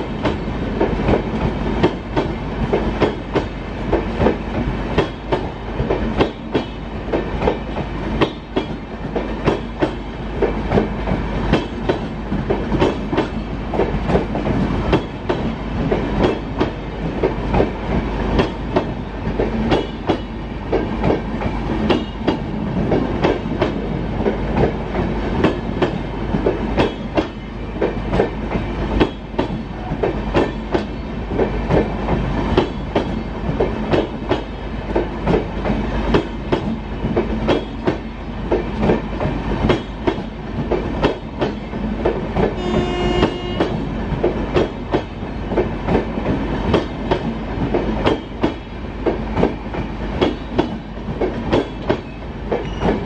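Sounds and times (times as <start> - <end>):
low train rumble: 0.0 - 53.0
train wheels clattering over rail joints: 0.1 - 53.0.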